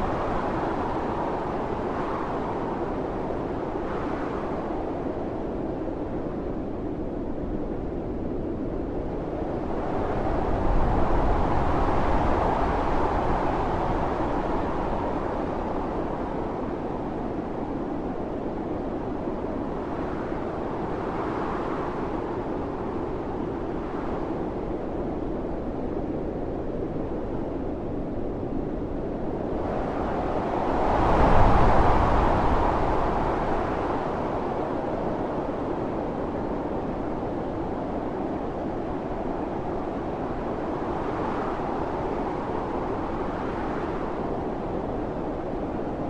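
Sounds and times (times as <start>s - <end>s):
strong blizzard wind rushing: 0.0s - 46.0s.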